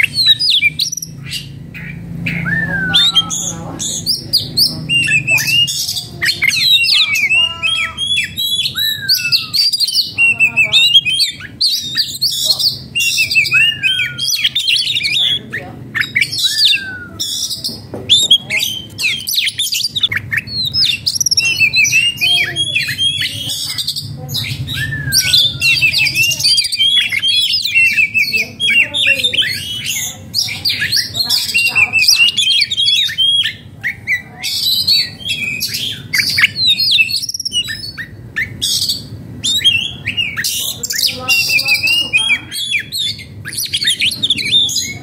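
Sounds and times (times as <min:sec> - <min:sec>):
bird singing rapid song: 0:00.0 - 0:45.0.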